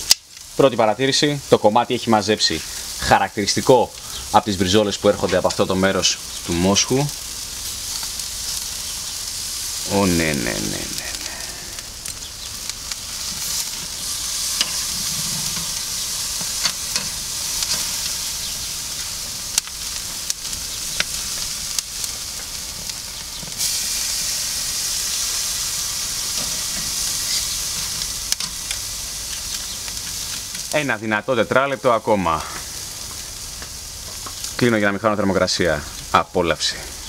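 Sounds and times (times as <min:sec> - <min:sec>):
steaks sizzling on grill: 0:00.0 - 0:37.0.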